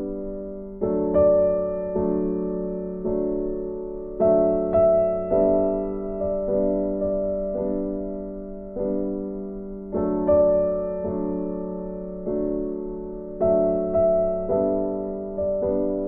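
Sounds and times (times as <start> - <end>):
slow solo piano music: 0.0 - 16.0.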